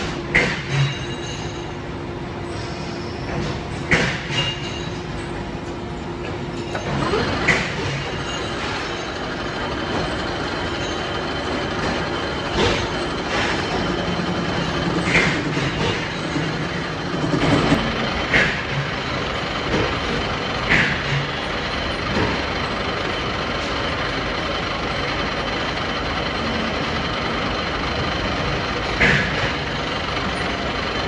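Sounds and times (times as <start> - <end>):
metalworking machinery din: 6.0 - 31.0.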